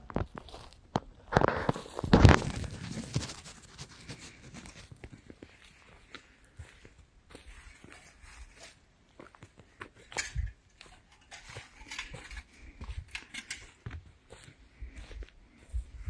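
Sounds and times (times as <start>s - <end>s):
footsteps on dry forest ground: 0.0s - 16.0s.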